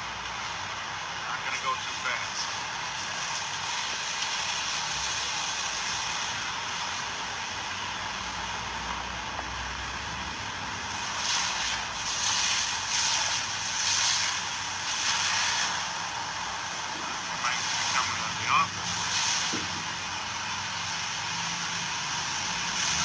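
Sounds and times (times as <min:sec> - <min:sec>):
vehicle road noise: 0:02.0 - 0:23.0.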